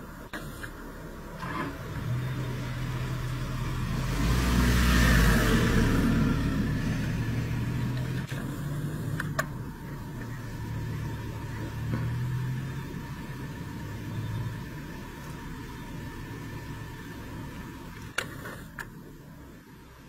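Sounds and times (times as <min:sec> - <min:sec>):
low motor hum: 0:00.0 - 0:20.0
rumble: 0:00.0 - 0:20.0.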